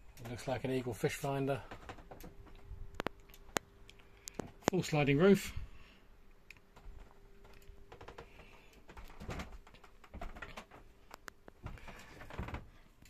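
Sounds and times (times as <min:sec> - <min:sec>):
small clicks and knocks: 0:00.1 - 0:00.7, 0:01.6 - 0:04.9, 0:06.4 - 0:13.0.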